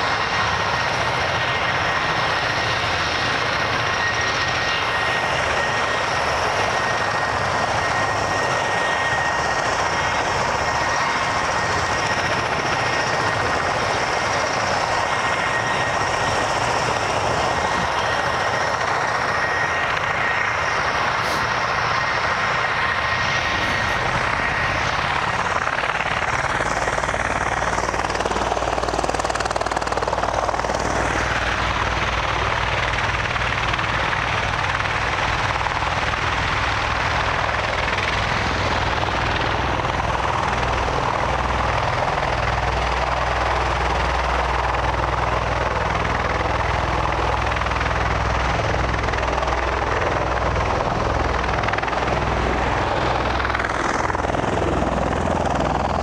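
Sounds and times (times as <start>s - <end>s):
tilt-rotor aircraft engines roaring: 0.0s - 56.0s.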